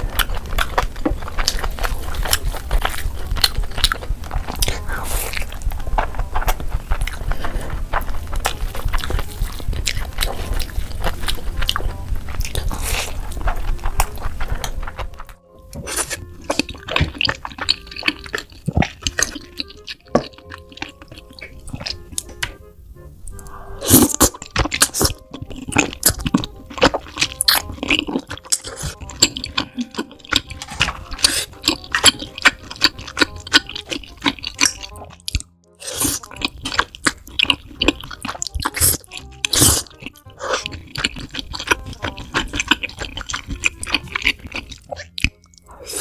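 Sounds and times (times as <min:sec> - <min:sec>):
person chewing sticky food: 0:00.0 - 0:22.7, 0:23.3 - 0:46.0.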